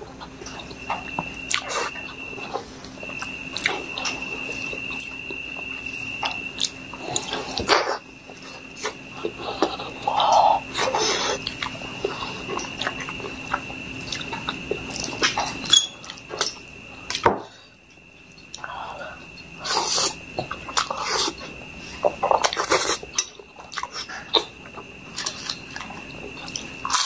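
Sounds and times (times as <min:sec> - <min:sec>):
faint high-pitched whine: 0:00.0 - 0:27.0
wet chewing and mouth sounds: 0:00.1 - 0:17.2, 0:17.9 - 0:27.0.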